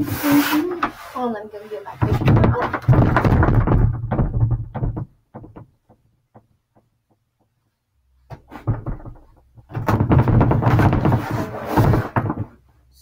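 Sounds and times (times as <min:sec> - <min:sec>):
knocks and thumps of handling: 0:01.9 - 0:12.7.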